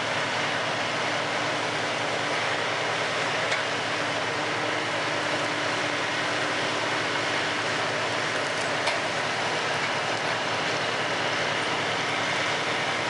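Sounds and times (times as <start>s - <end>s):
wood chipper grinding logs: 0.0s - 13.0s.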